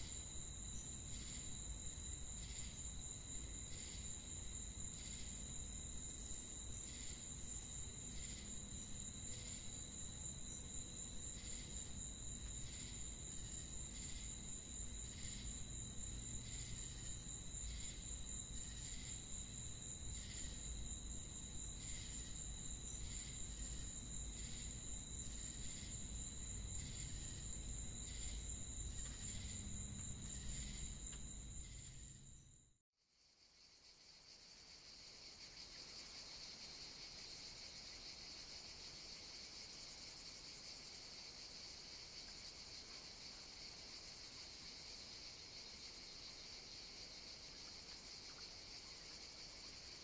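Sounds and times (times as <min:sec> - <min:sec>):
insect chorus: 0:00.0 - 0:50.0.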